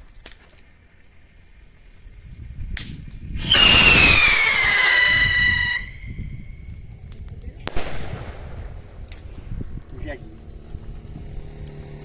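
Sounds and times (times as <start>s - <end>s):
whistling firework hissing: 0.0s - 11.4s
firework fuse click: 2.2s - 11.8s.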